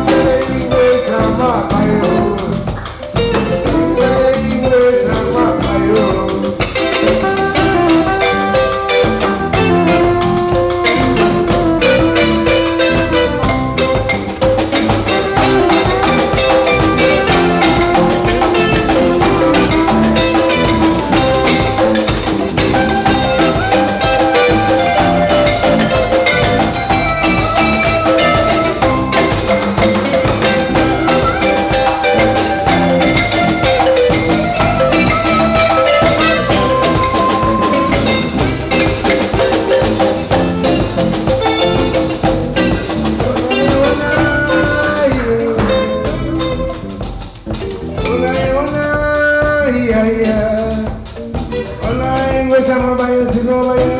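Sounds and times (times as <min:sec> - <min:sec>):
electric bass guitar: 0:00.0 - 0:53.9
percussion: 0:00.0 - 0:53.9.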